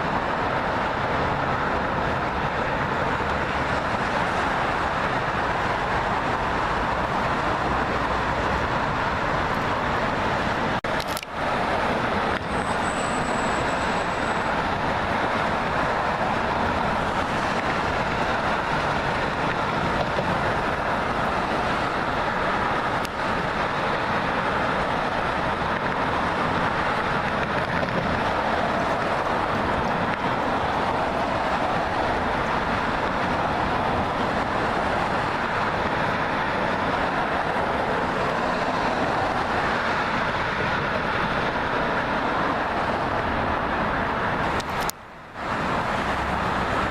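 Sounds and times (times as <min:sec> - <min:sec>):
road traffic noise: 0:00.0 - 0:46.9.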